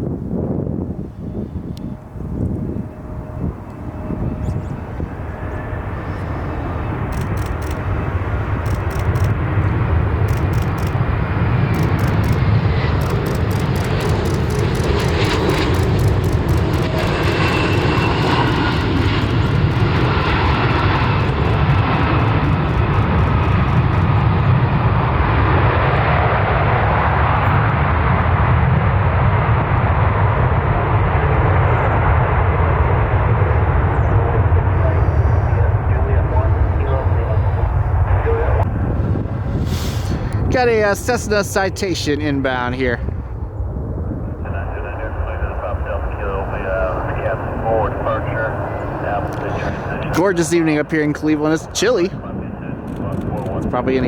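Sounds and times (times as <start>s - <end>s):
jet engines passing: 1.3s - 54.0s.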